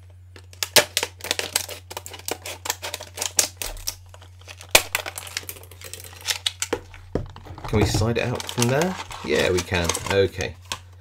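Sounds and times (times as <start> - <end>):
plastic crackling: 0.0 - 11.0
scissors cutting plastic packaging: 0.5 - 6.8, 7.6 - 10.9.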